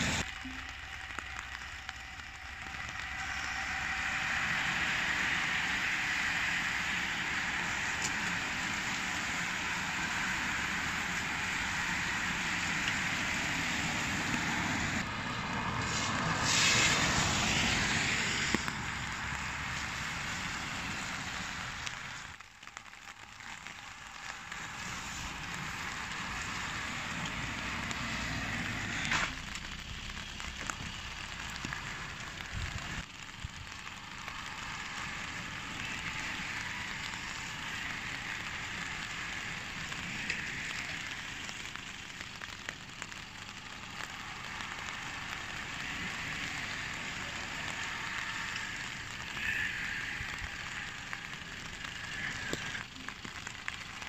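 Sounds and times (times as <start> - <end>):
rain falling: 0.0 - 54.0
small crackles: 0.0 - 54.0
tyres swishing on wet road: 0.0 - 54.0.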